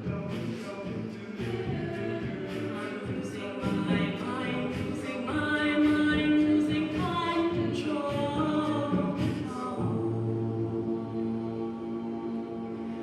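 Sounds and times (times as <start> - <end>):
a cappella group singing in harmony: 0.0 - 13.0.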